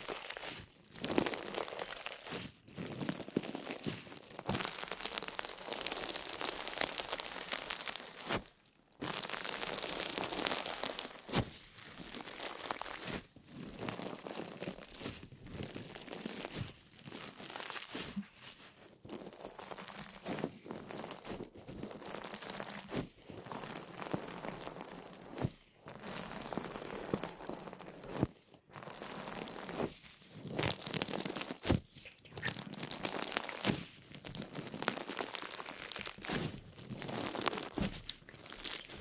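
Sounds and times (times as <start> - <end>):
crinkling and crunching: 0.0 - 39.0.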